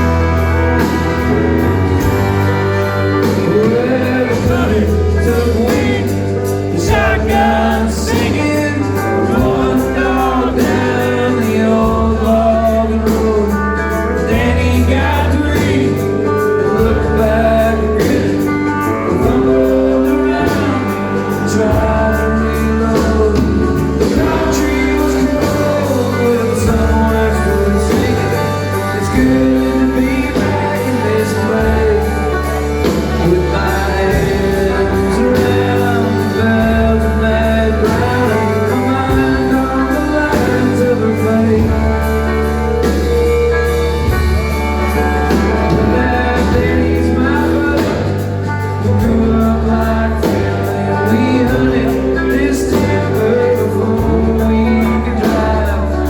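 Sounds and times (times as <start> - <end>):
live country band playing: 0.0 - 56.0
man singing lead vocals: 0.0 - 56.0.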